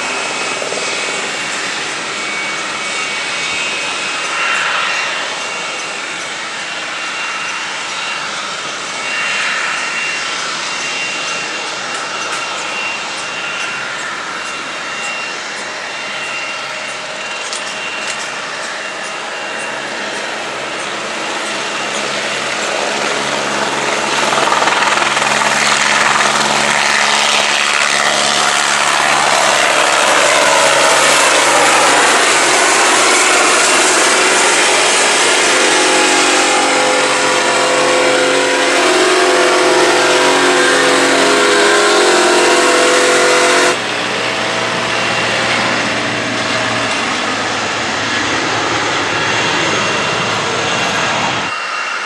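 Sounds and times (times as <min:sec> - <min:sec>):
helicopter rotor noise: 0:00.0 - 0:52.0
helicopter turbine whine: 0:00.0 - 0:52.0.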